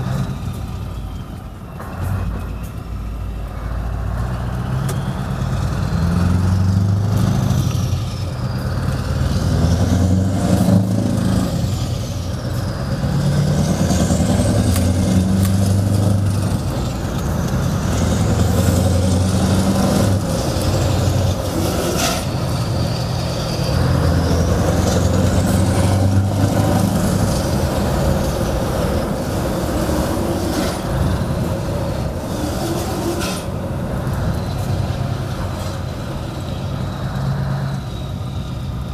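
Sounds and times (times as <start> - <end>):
truck engine pulling: 0.0 - 38.9.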